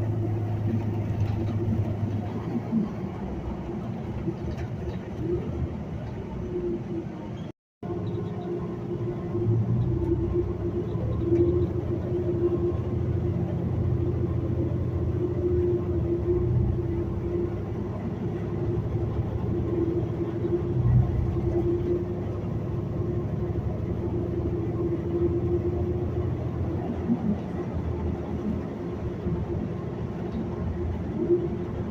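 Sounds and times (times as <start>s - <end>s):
bus engine humming: 0.0s - 31.9s
road rumble: 0.0s - 31.9s.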